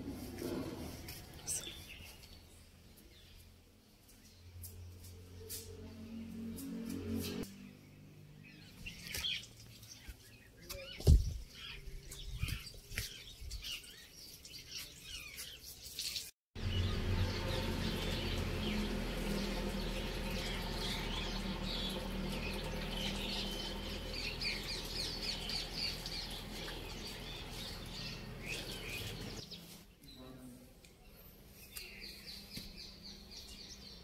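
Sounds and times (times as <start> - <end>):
outdoor ambience: 0.0 - 34.0
birds chirping: 0.2 - 3.5, 4.1 - 34.0.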